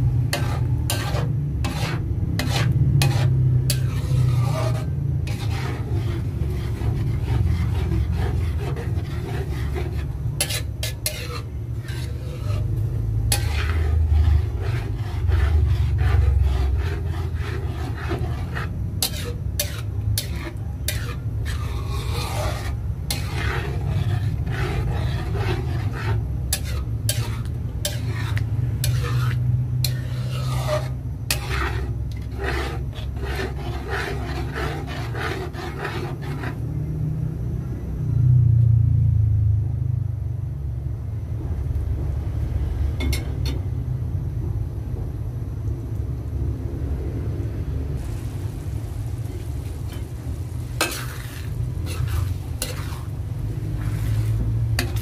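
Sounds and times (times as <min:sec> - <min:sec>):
metal spoon scraping pan: 0:00.0 - 0:36.6, 0:43.0 - 0:43.6, 0:48.0 - 0:55.0.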